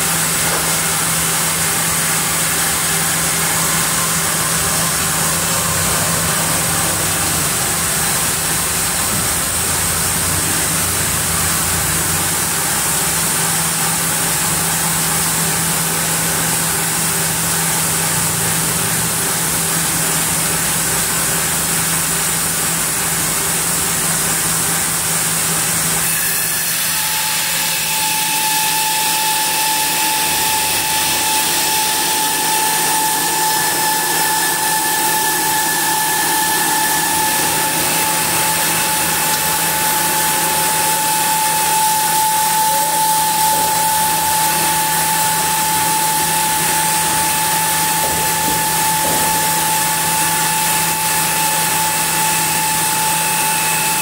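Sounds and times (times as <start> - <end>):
band saw cutting log: 0.0 - 21.8, 25.6 - 54.0.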